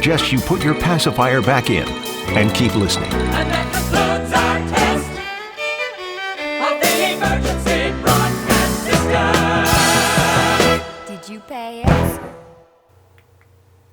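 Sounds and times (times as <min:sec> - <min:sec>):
music with held notes: 0:00.0 - 0:12.7.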